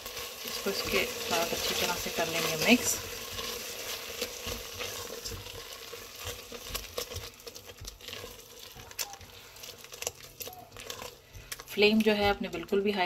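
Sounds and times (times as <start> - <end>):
faint sizzle: 0.0 - 13.0
spoon scraping metal pan: 0.1 - 12.8.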